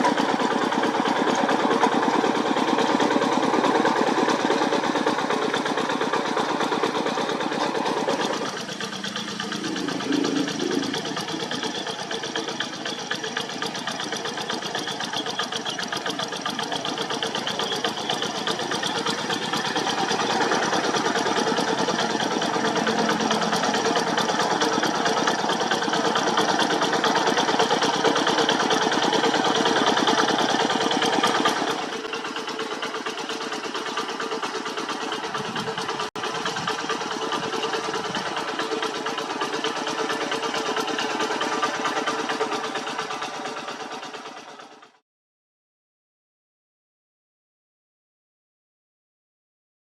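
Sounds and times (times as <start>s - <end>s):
hand tractor engine running: 0.0s - 45.0s.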